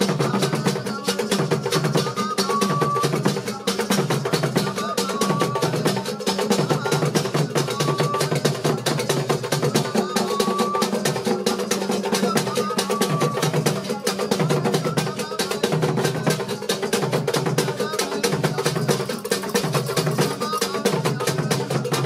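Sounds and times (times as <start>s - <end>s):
drum ensemble playing: 0.0s - 22.0s.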